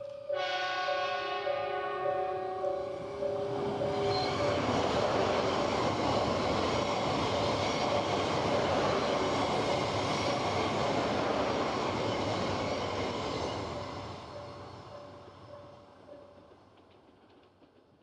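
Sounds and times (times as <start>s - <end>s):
train passing on rails: 0.0s - 18.0s.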